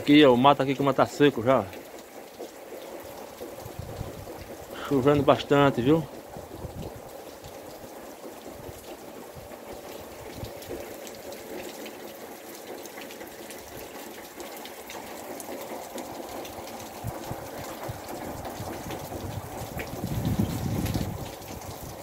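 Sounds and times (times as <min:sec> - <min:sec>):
heavy rain on wet ground: 0:00.0 - 0:22.0.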